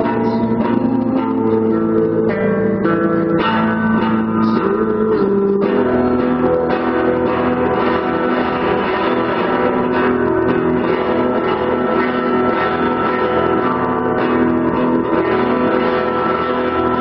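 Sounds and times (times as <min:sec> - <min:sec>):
lap steel guitar notes: 0:00.0 - 0:17.0.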